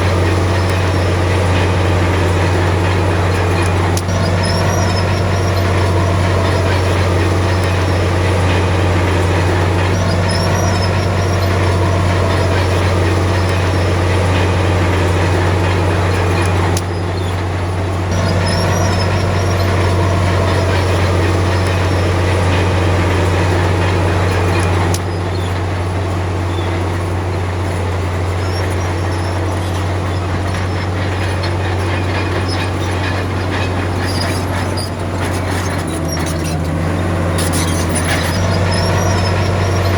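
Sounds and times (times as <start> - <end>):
diesel earthmoving machinery: 0.0 - 39.9.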